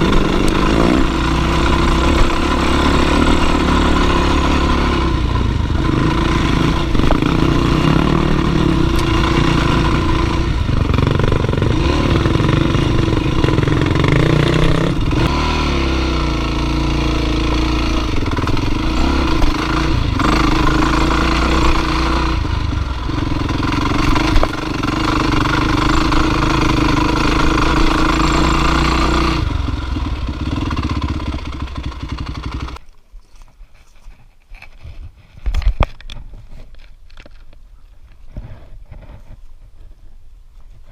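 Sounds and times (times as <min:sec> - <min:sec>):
dirt bike engine revving: 0:00.0 - 0:32.8.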